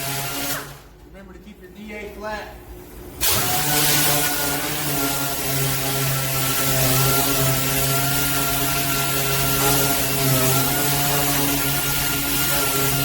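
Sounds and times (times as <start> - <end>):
sander motor hum and hiss: 0.0 - 0.8, 3.2 - 13.0.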